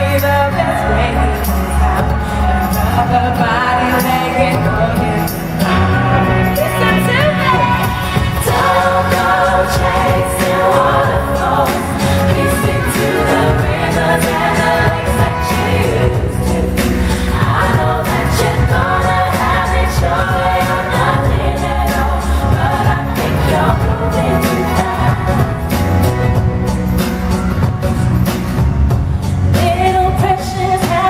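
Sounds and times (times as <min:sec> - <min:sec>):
female vocal group singing in harmony: 0:00.0 - 0:26.4, 0:29.5 - 0:31.0
live pop band backing: 0:00.0 - 0:31.0.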